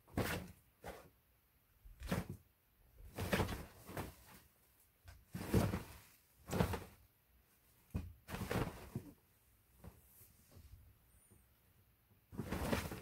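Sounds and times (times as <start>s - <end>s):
cat tunnel rustling and thudding: 0.0s - 1.2s, 1.9s - 10.8s, 12.2s - 13.0s.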